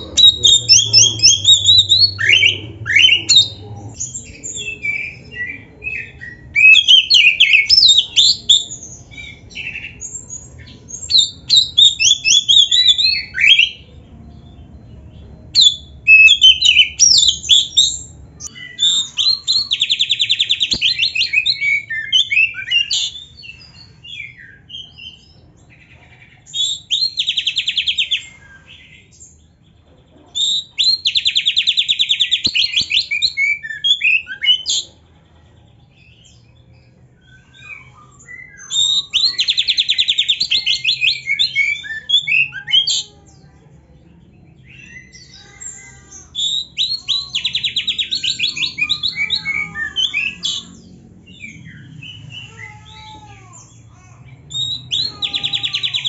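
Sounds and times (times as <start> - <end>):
magpie-robin singing: 0.0 - 35.0, 35.8 - 43.6, 44.2 - 56.0.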